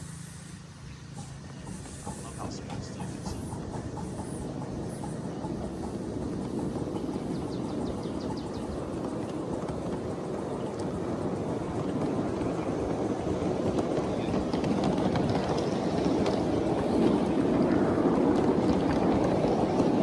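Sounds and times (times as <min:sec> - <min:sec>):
miniature train wheels rumbling: 0:00.0 - 0:20.0.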